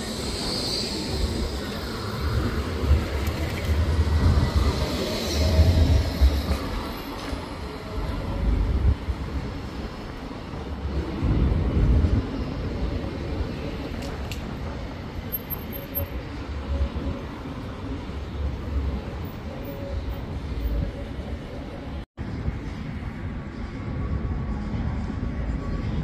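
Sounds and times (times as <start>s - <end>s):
street traffic: 0.0s - 26.0s
tram rumbling along track: 0.0s - 26.0s.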